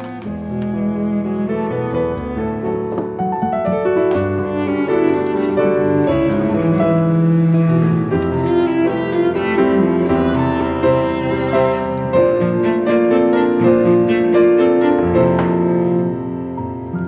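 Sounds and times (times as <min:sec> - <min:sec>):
piano: 0:00.0 - 0:17.0.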